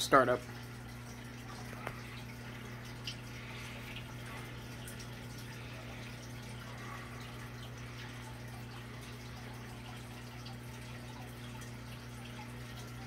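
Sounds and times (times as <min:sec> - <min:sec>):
steady low hum: 0:00.0 - 0:13.0
water trickling and dripping: 0:00.0 - 0:13.0.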